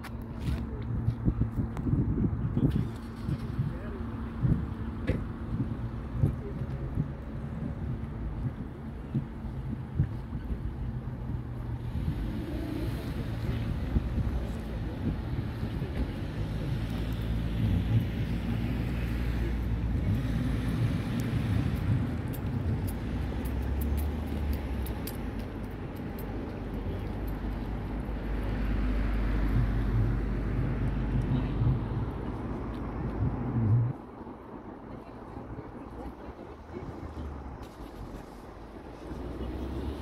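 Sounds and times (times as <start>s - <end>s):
low engine hum: 0.0s - 40.0s
steady low rumble: 0.0s - 40.0s
faint voices: 0.1s - 40.0s.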